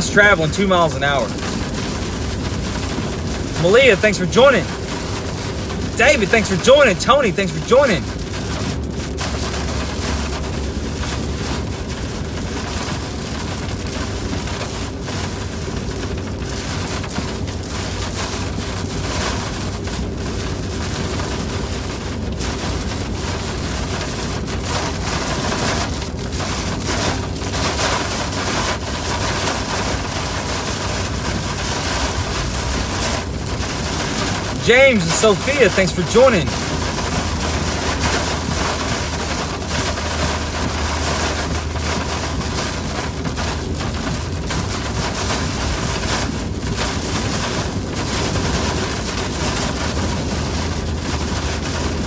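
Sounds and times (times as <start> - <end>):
heavy rain on car roof: 0.0 - 52.0
tyre noise on wet road: 0.0 - 52.0.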